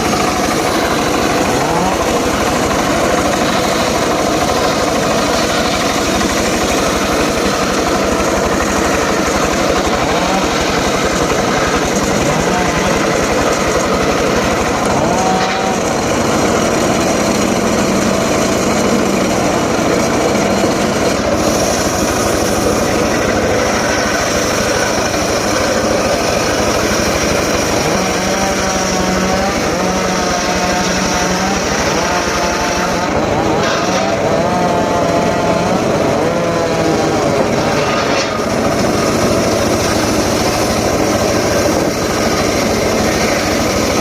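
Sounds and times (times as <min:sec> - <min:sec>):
small engine saw running: 0:00.0 - 0:44.0.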